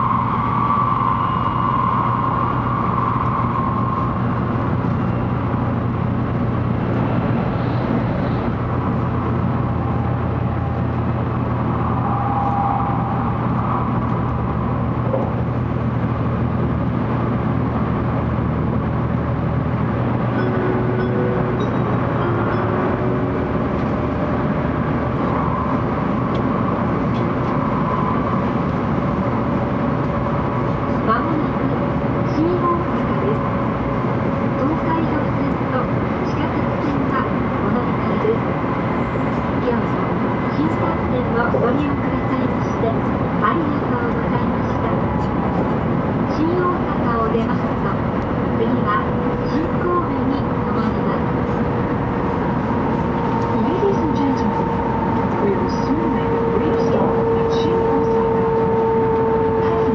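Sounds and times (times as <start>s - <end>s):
train cabin rumble: 2.0s - 59.9s.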